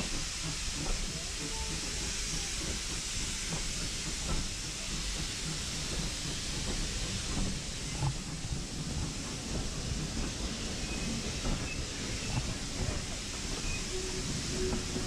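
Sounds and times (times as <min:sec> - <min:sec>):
steam locomotive hiss and rumble: 0:00.0 - 0:15.0
train knocks and rattles: 0:00.0 - 0:15.0.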